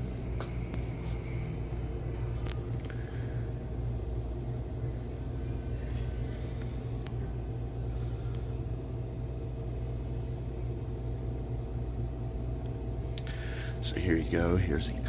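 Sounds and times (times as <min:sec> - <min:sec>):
vending machine mechanical hum: 0:00.0 - 0:15.0.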